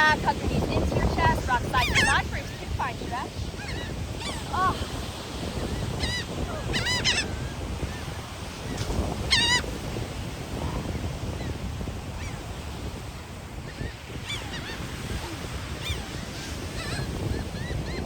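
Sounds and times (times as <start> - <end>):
seagulls calling: 0.0 - 11.6, 12.2 - 12.6, 13.6 - 18.0
surf: 0.0 - 18.0
wind noise on microphone: 0.0 - 18.0.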